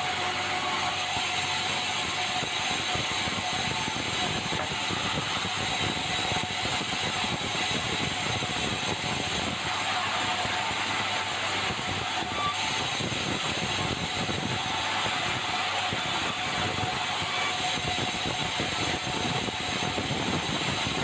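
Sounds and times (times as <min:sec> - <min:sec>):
sawmill saw cutting timber: 0:00.0 - 0:21.0.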